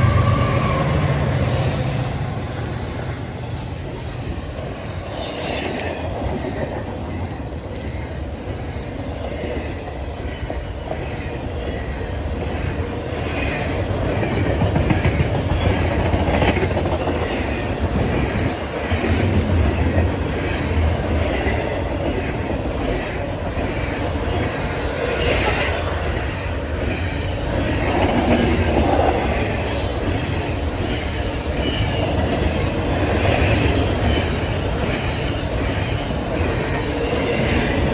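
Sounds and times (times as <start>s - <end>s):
train rumble: 0.0s - 37.9s
train wheels clicking over rail joints: 4.2s - 37.9s.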